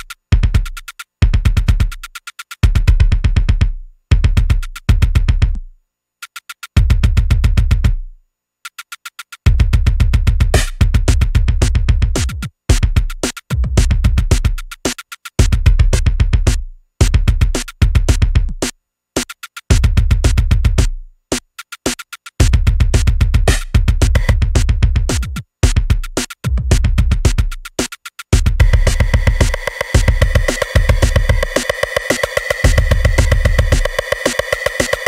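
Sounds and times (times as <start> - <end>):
drum machine beat: 0.0 - 5.6, 6.2 - 8.0, 8.7 - 35.0.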